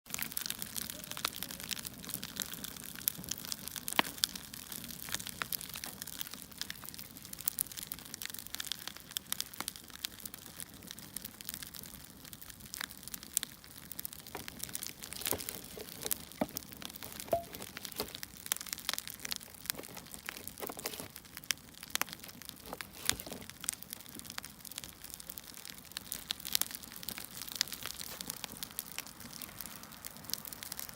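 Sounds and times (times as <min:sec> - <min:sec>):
wood fire crackling: 0:00.1 - 0:30.9.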